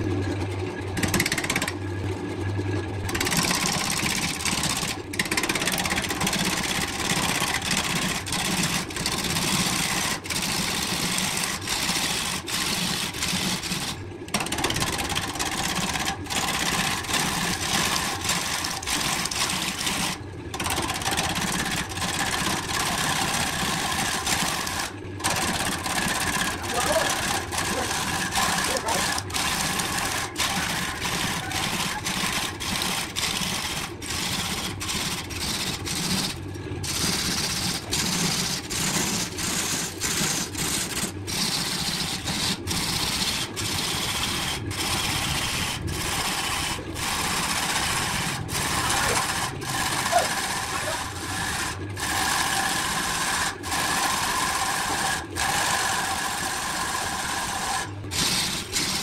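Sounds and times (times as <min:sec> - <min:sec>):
wood lathe motor hum: 0:00.0 - 0:59.0
gouge scraping wood: 0:06.6 - 0:56.5, 0:57.4 - 0:59.0.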